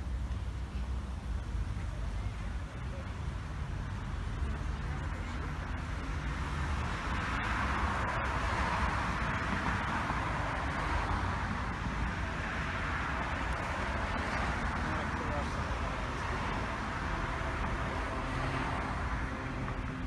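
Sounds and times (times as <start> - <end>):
low traffic rumble: 0.0 - 20.0
tyre hiss of passing cars: 0.0 - 20.0.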